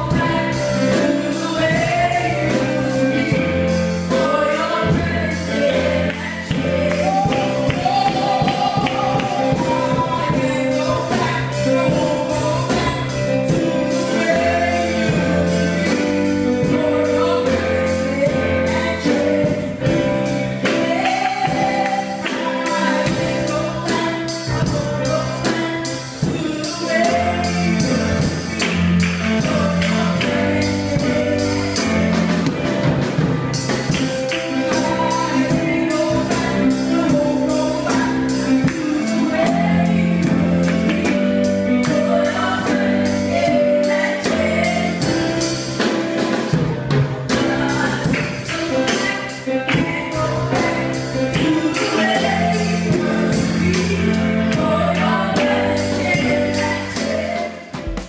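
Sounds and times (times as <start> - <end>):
drum and cymbal beat: 0.0 - 58.0
gospel singers on microphones: 0.0 - 58.0
steady bass notes: 0.0 - 58.0.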